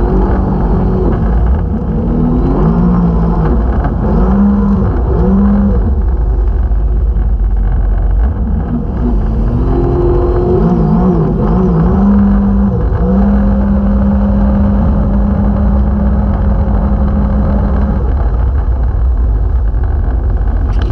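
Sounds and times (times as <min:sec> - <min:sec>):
jet ski engine running: 0:00.0 - 0:20.9.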